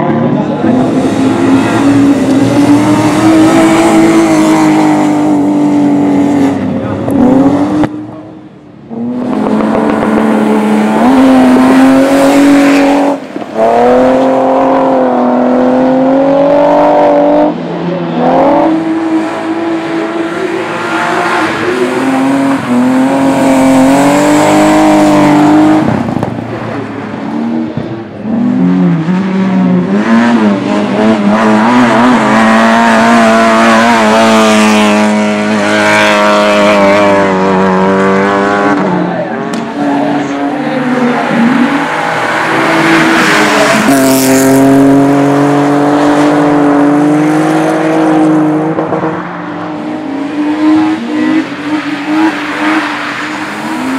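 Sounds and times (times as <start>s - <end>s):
car engines revving at high revs: 0.0s - 53.9s.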